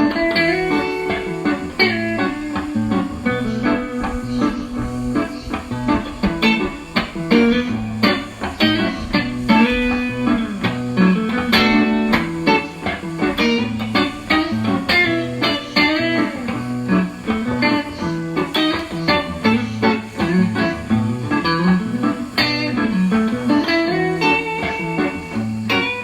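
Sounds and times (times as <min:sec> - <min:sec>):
plucked guitar music: 0:00.0 - 0:26.0.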